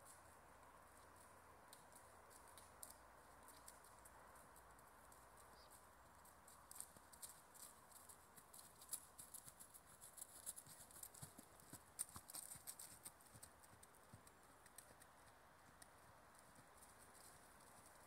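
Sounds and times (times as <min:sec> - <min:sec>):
horse hoofbeats on grass: 0:00.8 - 0:18.0.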